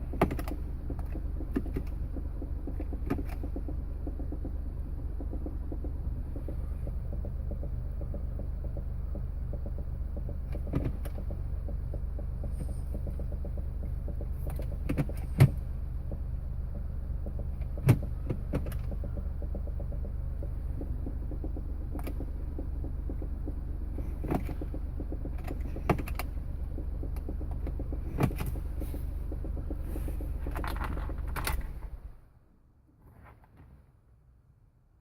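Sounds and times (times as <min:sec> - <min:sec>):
car low hum: 0:00.0 - 0:35.0.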